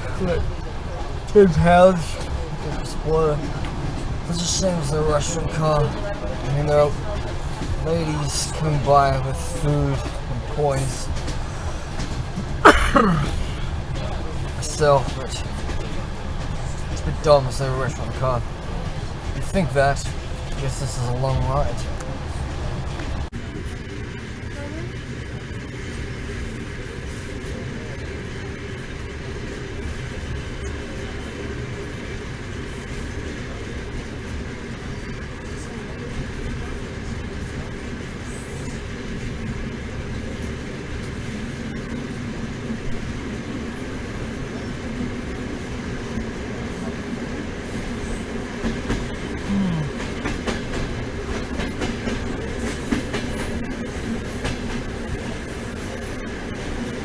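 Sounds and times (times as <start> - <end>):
train clicking and clatter: 0.0 - 57.0
train wheels rumbling on rails: 0.0 - 57.0.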